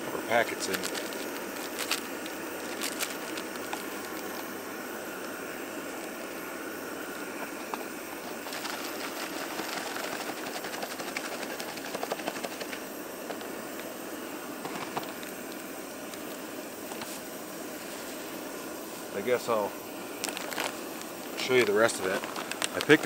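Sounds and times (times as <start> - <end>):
gas burner hissing: 0.0 - 23.0.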